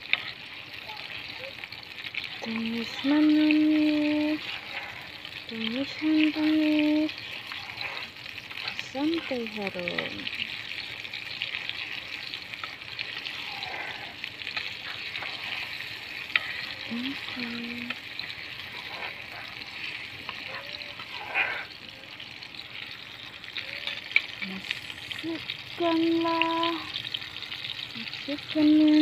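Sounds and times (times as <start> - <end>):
oil sizzling in a frying pan: 0.0 - 29.0.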